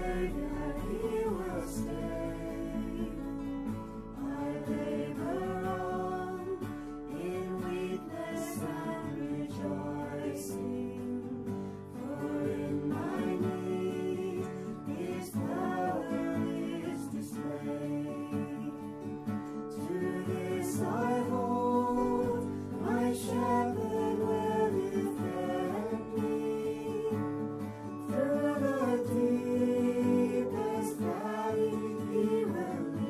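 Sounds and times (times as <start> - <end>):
person singing a hymn: 0.0 - 3.3, 3.9 - 33.0
guitar chords: 0.0 - 33.0.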